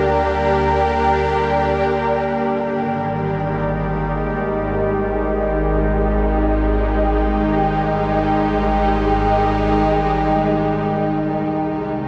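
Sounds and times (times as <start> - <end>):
ambient synthesizer music: 0.0 - 12.0.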